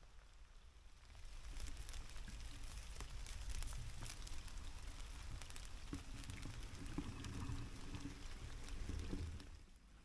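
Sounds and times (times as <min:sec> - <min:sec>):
light rain pattering: 0:00.0 - 0:10.0.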